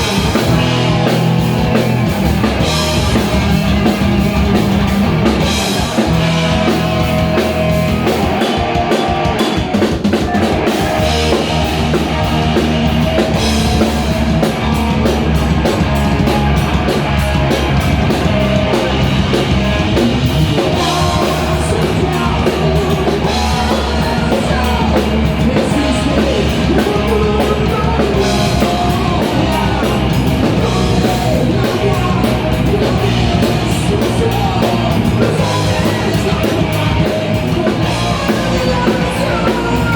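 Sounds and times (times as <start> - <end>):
drum kit: 0.0 - 39.9
rock band playing live: 0.0 - 39.9.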